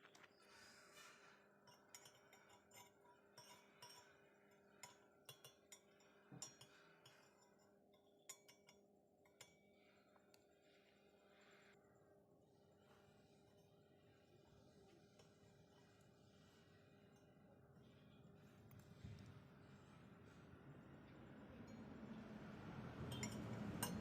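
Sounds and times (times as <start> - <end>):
light clicks and clinks: 0.0 - 12.0, 12.8 - 19.4, 21.1 - 22.2, 22.9 - 24.0
low steady hum: 0.0 - 24.0.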